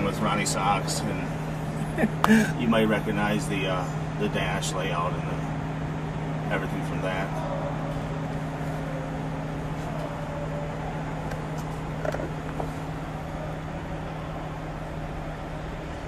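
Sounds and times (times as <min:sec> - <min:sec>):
low two-tone hum: 0:00.0 - 0:16.0.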